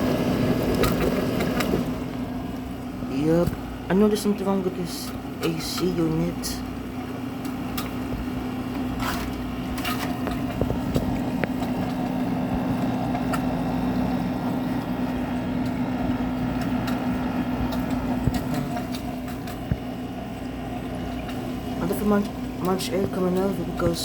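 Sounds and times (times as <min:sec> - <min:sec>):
air conditioner hum: 0:00.0 - 0:24.0
fan whirring: 0:00.0 - 0:24.0.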